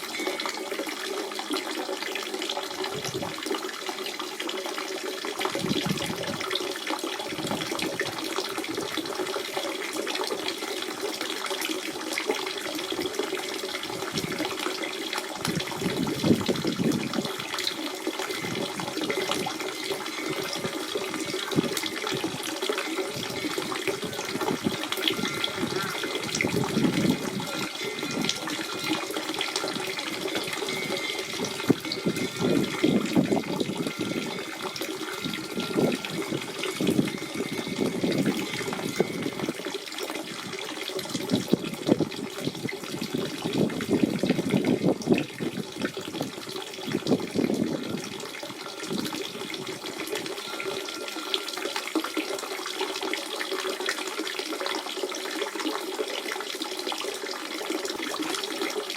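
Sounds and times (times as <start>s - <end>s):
spring water running and gurgling: 0.0s - 58.9s.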